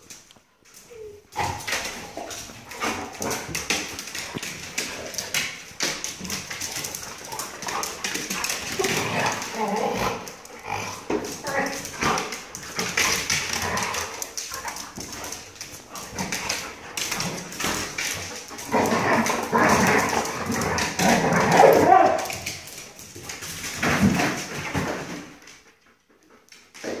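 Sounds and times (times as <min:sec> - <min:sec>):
dogs scuffling: 0:00.0 - 0:27.0.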